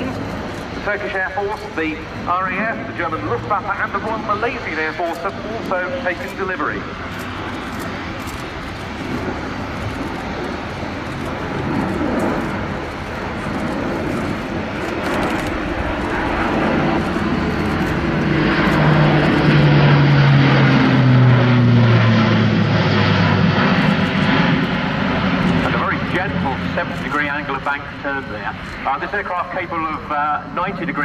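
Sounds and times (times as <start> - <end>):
low propeller hum: 0.0 - 31.0
turboprop aircraft engines: 0.0 - 31.0.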